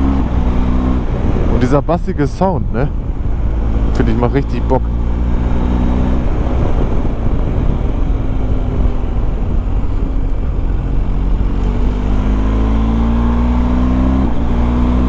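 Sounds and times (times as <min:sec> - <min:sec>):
motorcycle engine: 0:00.0 - 0:15.0
wind rush: 0:00.0 - 0:15.0.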